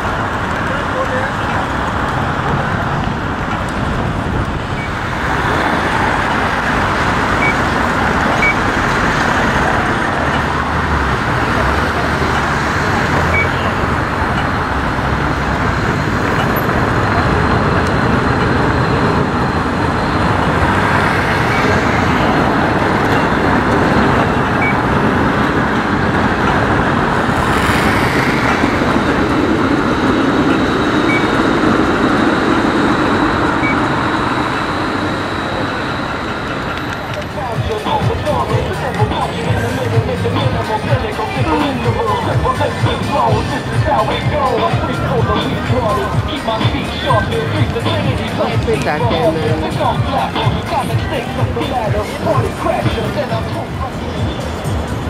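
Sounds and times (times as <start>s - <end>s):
city street traffic: 0.0s - 55.0s
tram rumbling past: 0.0s - 55.0s.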